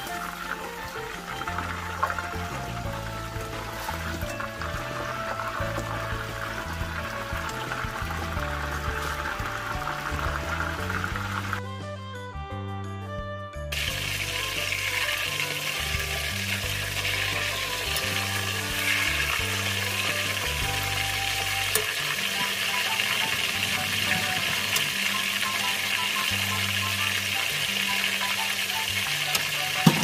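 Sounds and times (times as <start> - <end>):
food frying in hot oil: 0.0 - 11.6, 13.8 - 30.0
background music: 0.0 - 30.0.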